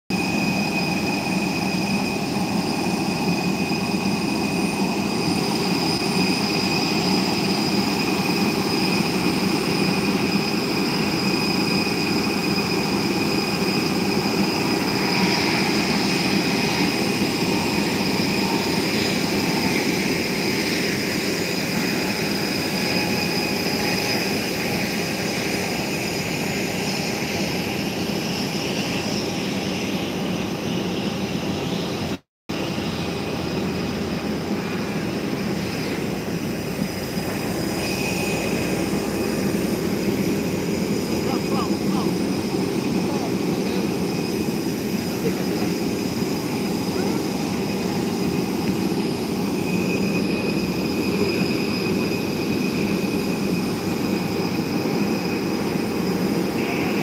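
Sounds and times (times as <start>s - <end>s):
jet turbine whine: 0.1s - 57.0s.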